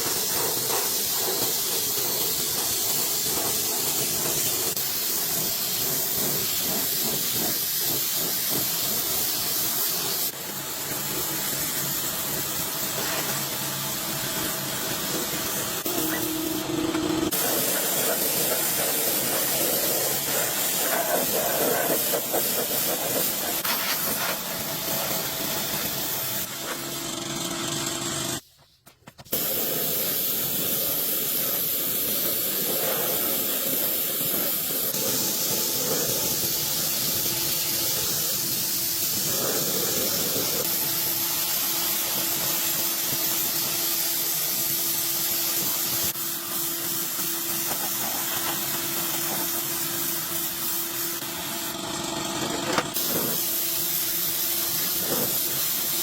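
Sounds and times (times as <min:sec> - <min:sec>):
steady hissing noise: 0:00.0 - 0:26.8, 0:29.3 - 0:51.2, 0:53.0 - 0:56.0.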